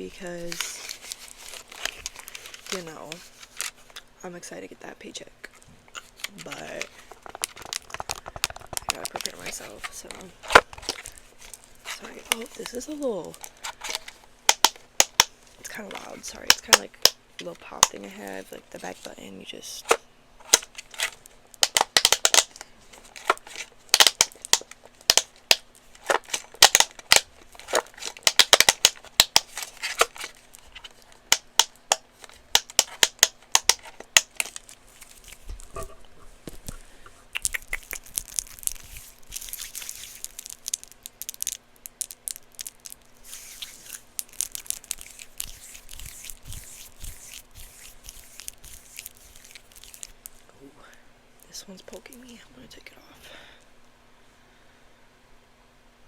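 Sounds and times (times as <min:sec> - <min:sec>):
rustling and crinkling handling: 0:00.0 - 0:04.2, 0:05.4 - 0:50.5.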